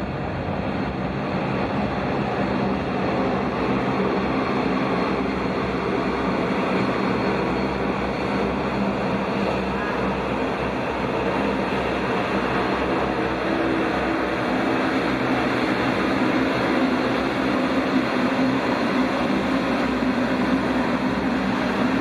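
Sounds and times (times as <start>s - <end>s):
jet engines at takeoff thrust: 0.0s - 22.0s.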